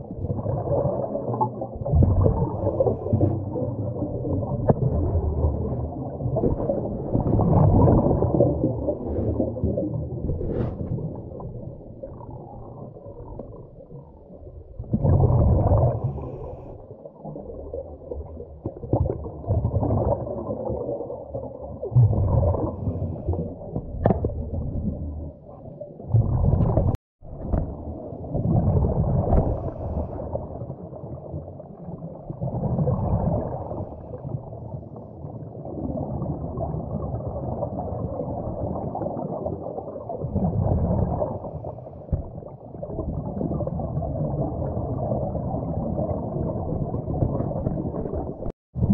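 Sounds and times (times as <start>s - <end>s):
underwater rumble and gurgling: 0.0s - 48.9s.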